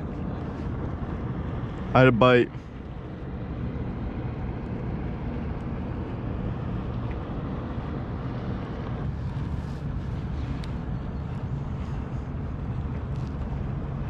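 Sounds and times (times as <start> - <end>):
low wind rumble: 0.0 - 14.0.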